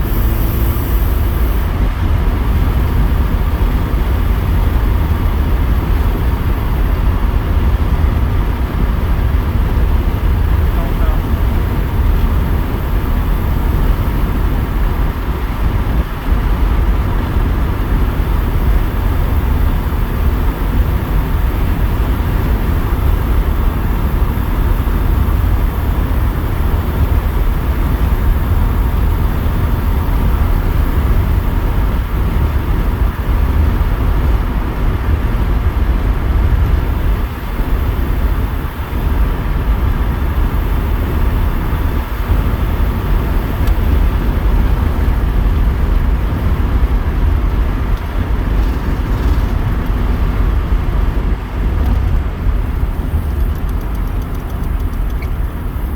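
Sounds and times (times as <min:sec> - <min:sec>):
car engine low rumble: 0:00.0 - 0:55.9.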